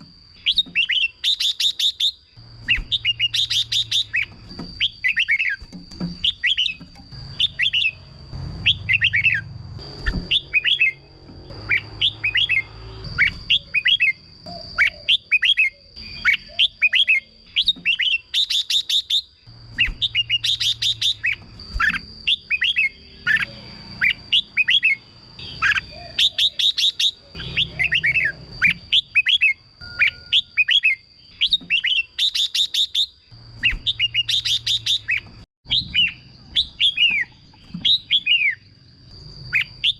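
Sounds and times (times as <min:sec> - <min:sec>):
bird singing whistled phrases: 0:00.4 - 0:05.6, 0:06.2 - 0:08.0, 0:08.6 - 0:38.6.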